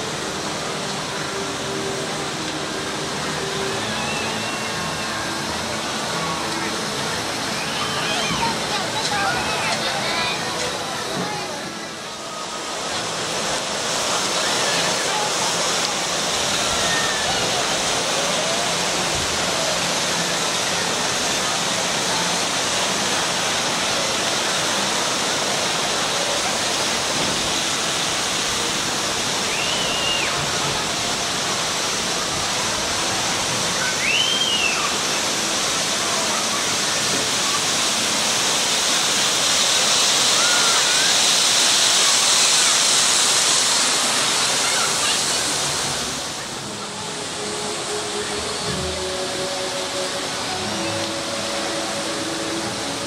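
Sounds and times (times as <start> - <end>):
rushing water: 0.0 - 53.0
faint distant voices: 0.1 - 53.0.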